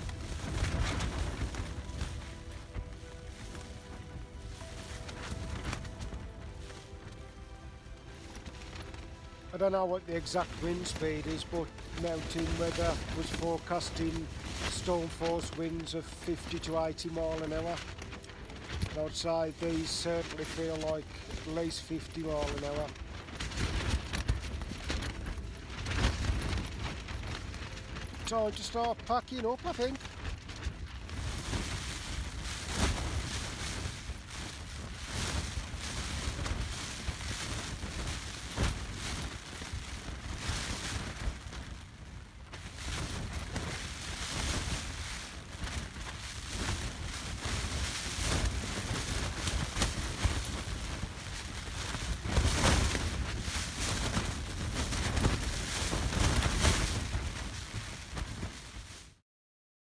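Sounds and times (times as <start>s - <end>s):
low rumbling wind noise: 0.0s - 59.2s
tent fabric shaking in gusts: 0.0s - 59.2s.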